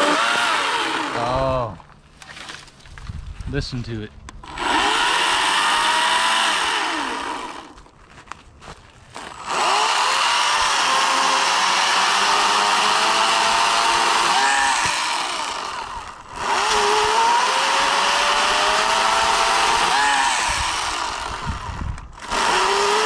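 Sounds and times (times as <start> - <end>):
electric chainsaw revving: 0.0 - 1.4, 4.4 - 7.8, 9.1 - 23.0.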